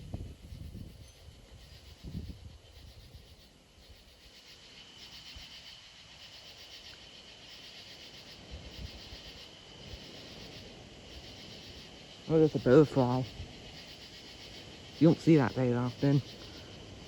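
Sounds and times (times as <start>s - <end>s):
night insects chirping: 0.0s - 17.0s.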